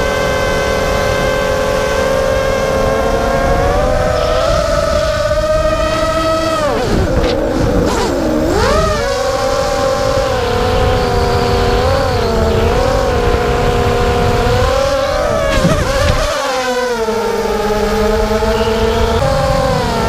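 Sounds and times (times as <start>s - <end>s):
drone motors whining: 0.0s - 20.0s
wind rumble: 0.0s - 20.0s.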